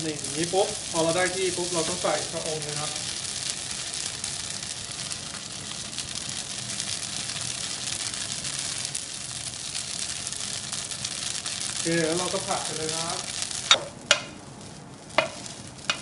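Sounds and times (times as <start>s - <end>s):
noodles and egg sizzling in pan: 0.0s - 16.0s.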